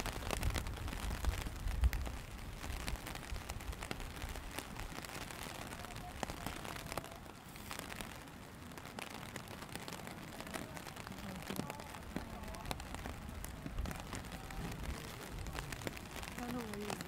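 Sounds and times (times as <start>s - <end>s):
rain hissing: 0.0s - 17.0s
raindrops tapping: 0.0s - 17.0s.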